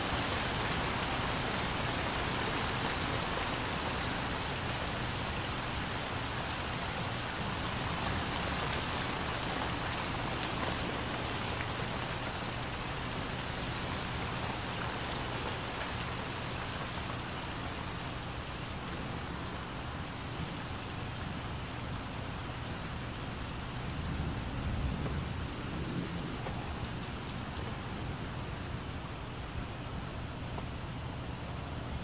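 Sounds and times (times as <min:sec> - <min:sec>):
rain falling on water and concrete: 0:00.0 - 0:32.0.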